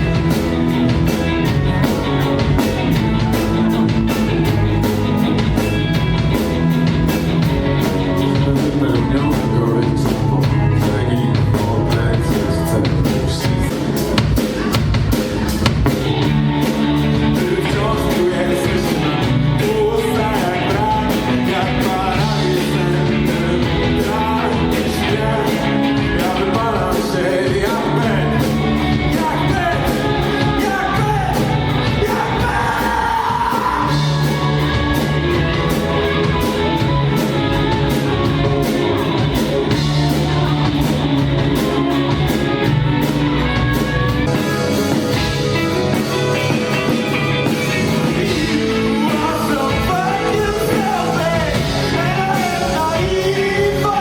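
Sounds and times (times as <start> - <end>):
live rock band playing: 0.0 - 54.0
person singing: 7.8 - 54.0.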